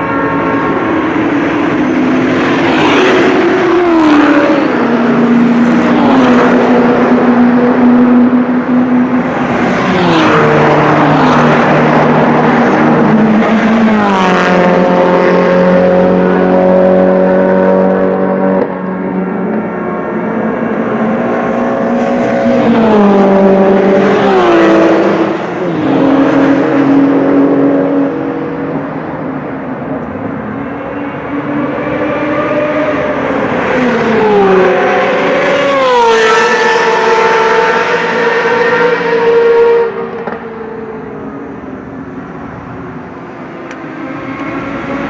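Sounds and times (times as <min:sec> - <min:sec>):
sports cars passing at speed: 0:00.0 - 0:45.0.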